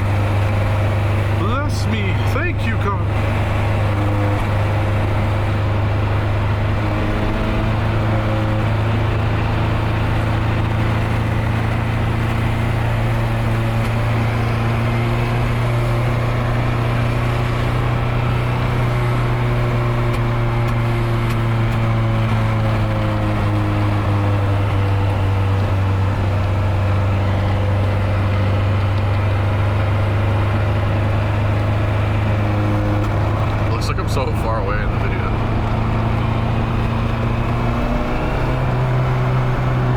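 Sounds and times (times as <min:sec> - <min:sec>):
car engine droning: 0:00.0 - 0:39.9
road and tyre noise: 0:00.0 - 0:39.9.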